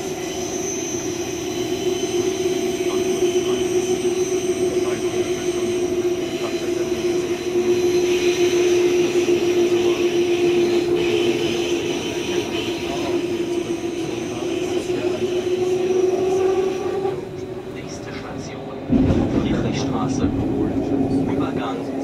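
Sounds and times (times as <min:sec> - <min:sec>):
electric train hum: 0:00.0 - 0:22.0
high whines: 0:00.0 - 0:22.0
wheels rumbling: 0:00.0 - 0:22.0.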